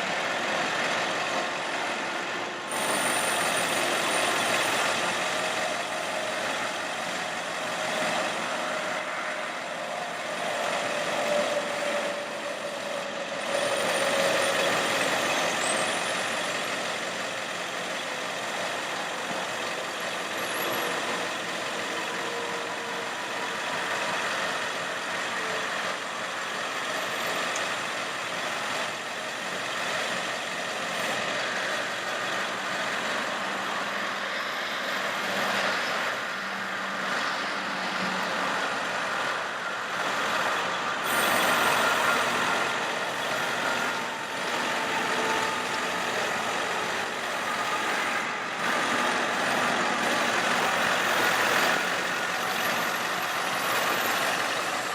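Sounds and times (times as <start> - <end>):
truck mechanical running noise: 0.0 - 54.9.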